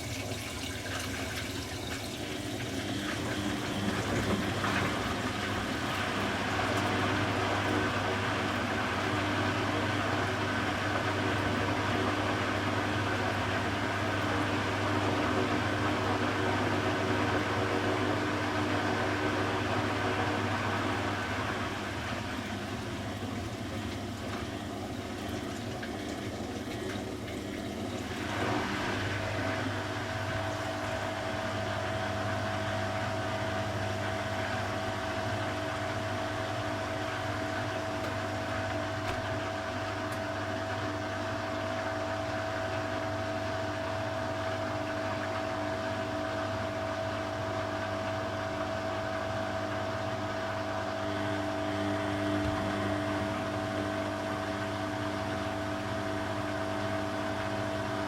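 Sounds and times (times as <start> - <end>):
washing machine hum with whine: 0.0 - 58.0
water rushing through washing machine: 0.0 - 58.0.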